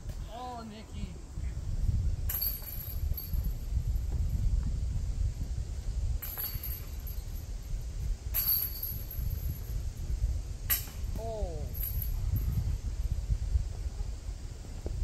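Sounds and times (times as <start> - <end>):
wind buffeting microphone: 1.1 - 15.0.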